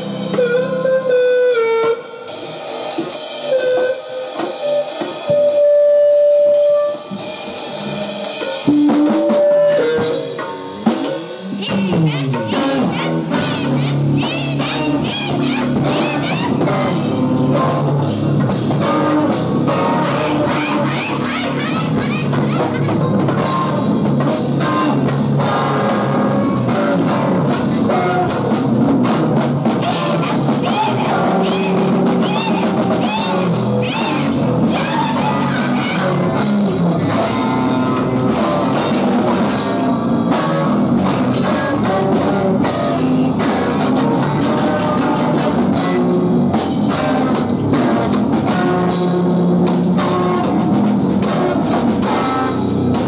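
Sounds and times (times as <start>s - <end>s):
rock band playing loudly: 0.0s - 53.0s.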